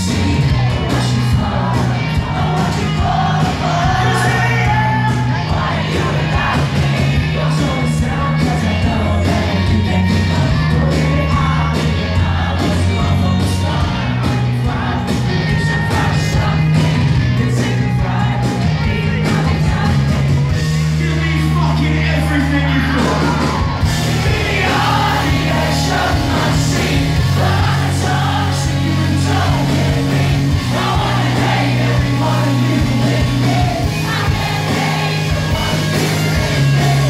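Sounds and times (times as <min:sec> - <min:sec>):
heavy bass and drums: 0:00.0 - 0:37.0
live band playing loudly: 0:00.0 - 0:37.0.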